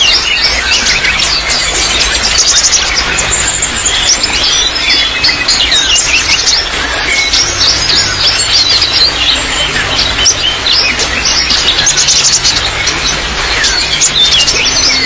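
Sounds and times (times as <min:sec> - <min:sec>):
songbirds chirping: 0:00.0 - 0:15.0
trickling water: 0:00.0 - 0:15.0.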